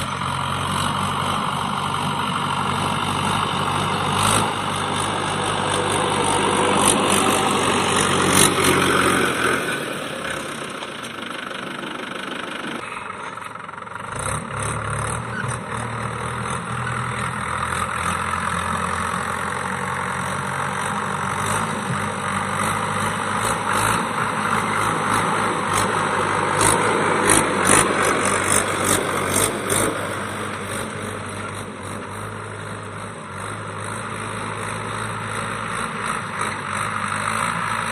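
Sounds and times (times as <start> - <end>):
tractor diesel engine: 0.0 - 37.9.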